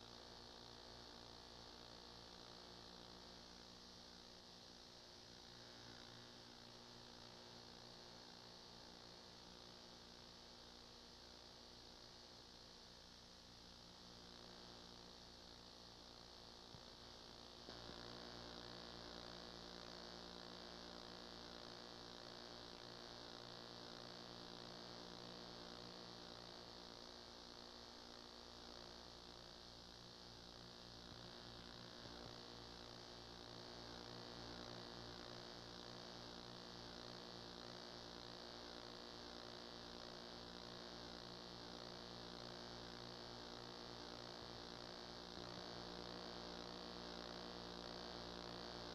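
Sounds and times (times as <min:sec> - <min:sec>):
faint electrical hum: 0:00.0 - 0:48.9.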